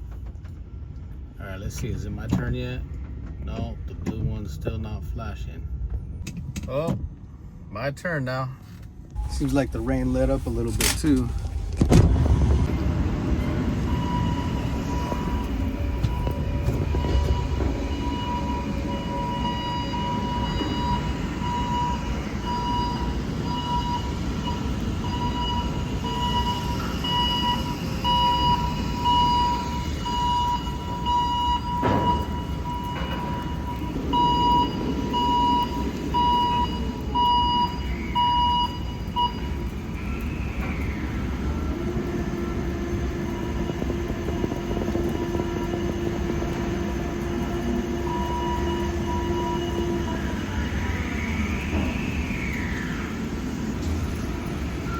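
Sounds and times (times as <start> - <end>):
truck engine idling: 8.9 - 54.9
crane warning alarm beeping: 9.2 - 54.9.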